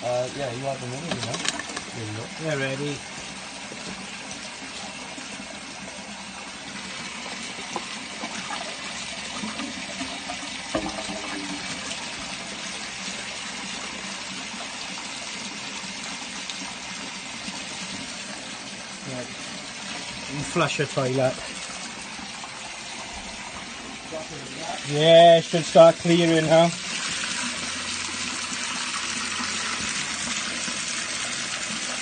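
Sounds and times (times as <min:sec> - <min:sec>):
waste water gushing through drain: 0:00.0 - 0:32.0.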